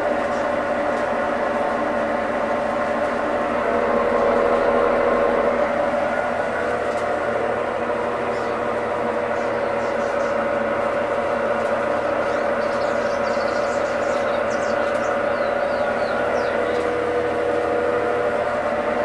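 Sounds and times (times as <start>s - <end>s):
washing machine whine and hum: 0.0s - 19.0s.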